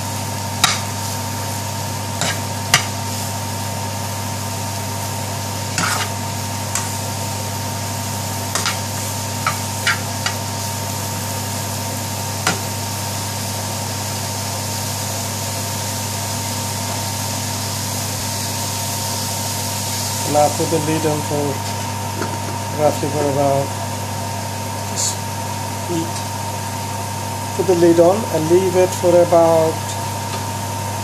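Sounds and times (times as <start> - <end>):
mushrooms and onions frying: 0.0 - 31.0.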